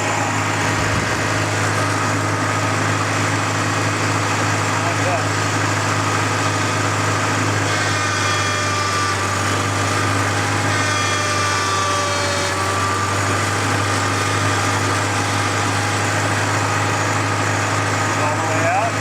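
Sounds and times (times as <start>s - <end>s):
hydraulic whine: 0.0s - 19.0s
tractor engine running: 0.0s - 19.0s.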